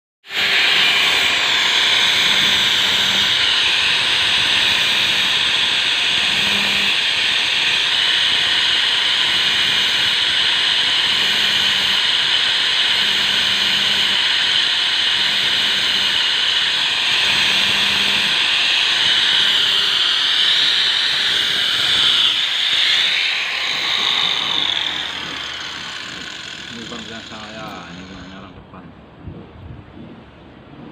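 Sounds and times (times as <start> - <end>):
loud hissing with high whine: 0.3 - 28.6.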